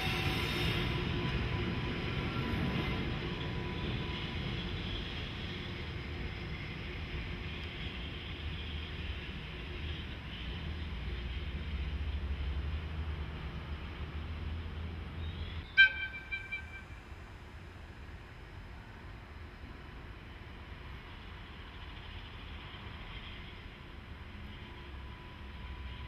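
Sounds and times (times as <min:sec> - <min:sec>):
locomotive rumbling over tracks: 0:00.0 - 0:26.0.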